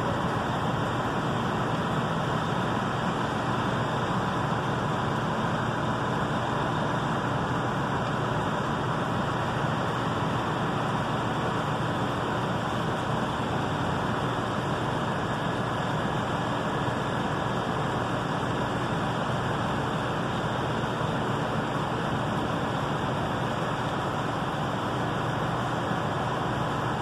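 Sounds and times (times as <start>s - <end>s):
faint steady hum: 0.0s - 27.0s
fire engine pumps running: 0.0s - 27.0s.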